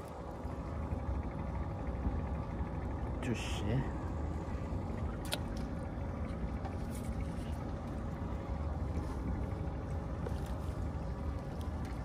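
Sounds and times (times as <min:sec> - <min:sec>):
wind and sea water rumble: 0:00.0 - 0:12.0.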